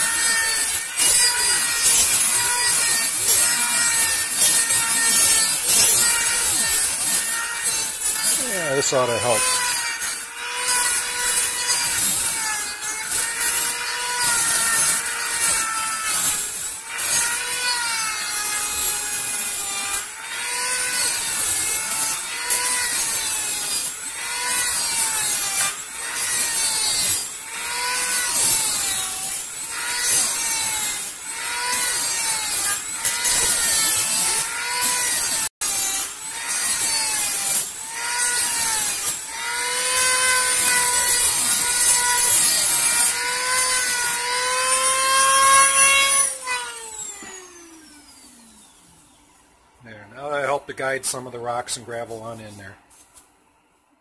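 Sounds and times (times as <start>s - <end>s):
rotary tool motor whine: 0.0s - 49.6s.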